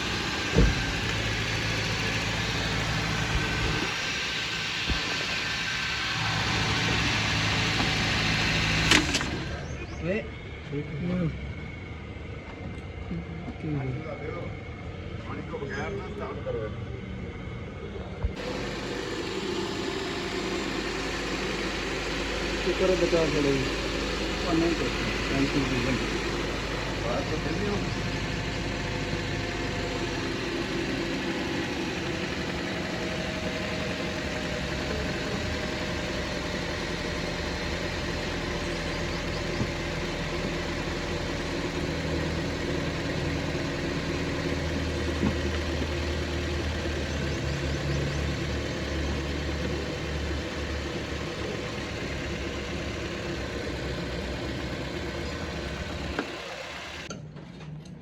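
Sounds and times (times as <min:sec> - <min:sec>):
car engine idling: 0:00.0 - 0:57.1.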